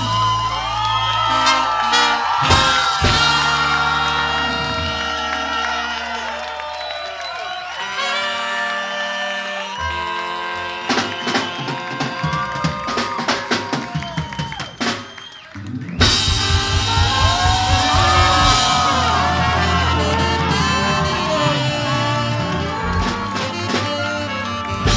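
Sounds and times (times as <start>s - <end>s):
ska band with horns: 0.0s - 24.9s.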